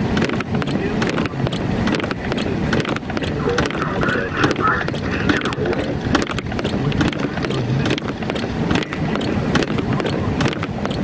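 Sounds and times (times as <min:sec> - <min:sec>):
sharp clicks: 0:00.2 - 0:11.0.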